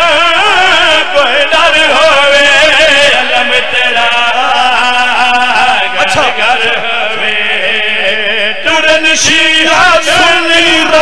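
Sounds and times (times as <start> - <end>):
man reciting: 0.0 - 11.0
men chanting through microphones: 0.0 - 11.0.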